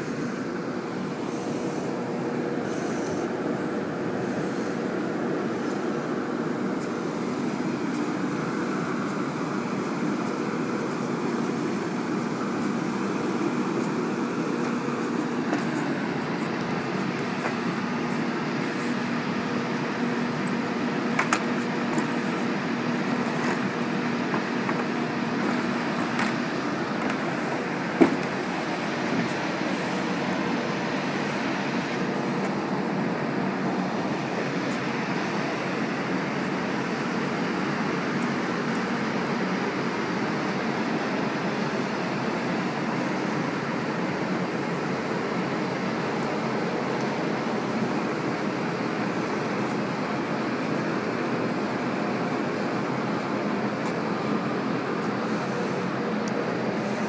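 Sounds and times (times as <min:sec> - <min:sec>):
engine-like drone: 0:00.0 - 0:57.0
held hum: 0:00.0 - 0:57.0.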